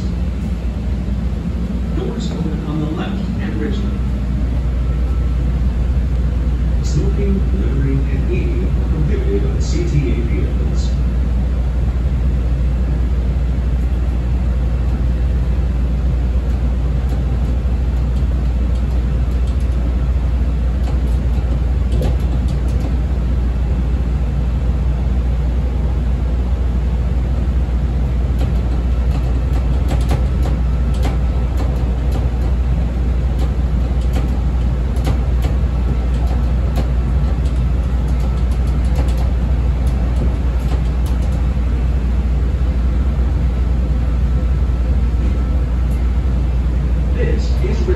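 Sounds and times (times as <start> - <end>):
train rumbling on rails: 0.0 - 47.9.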